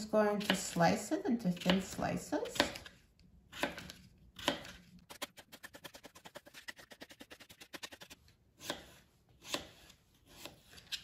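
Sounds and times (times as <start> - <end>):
knife slicing potato on board: 0.3 - 11.0.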